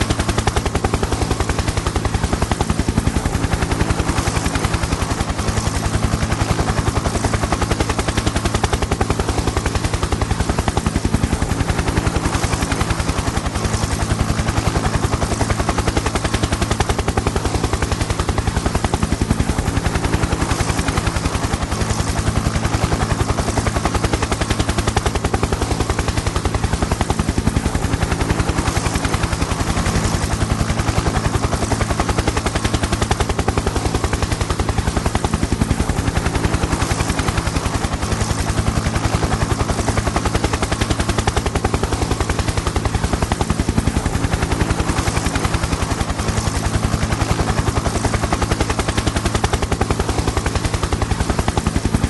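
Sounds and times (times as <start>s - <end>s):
helicopter rotor chop: 0.0s - 52.0s.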